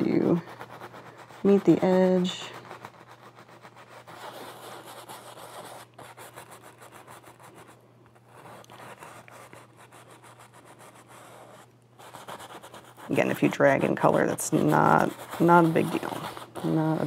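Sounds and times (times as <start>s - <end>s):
paintbrush scrubbing on canvas: 0.0s - 17.0s.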